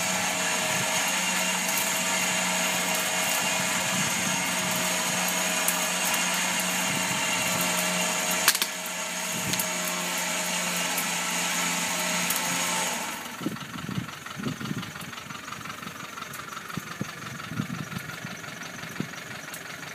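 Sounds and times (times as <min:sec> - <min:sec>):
winch whining under load: 0:00.0 - 0:19.9.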